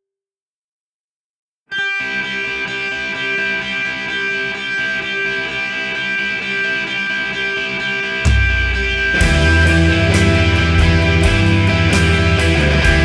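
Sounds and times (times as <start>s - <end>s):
ringing electric guitar with effects: 1.7s - 13.0s.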